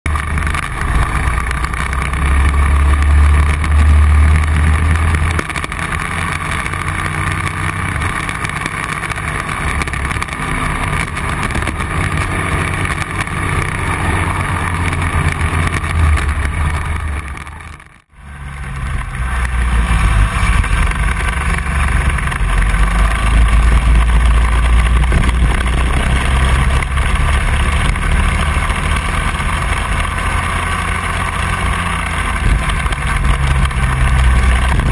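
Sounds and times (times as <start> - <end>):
go-kart engine running: 0.1 - 34.9.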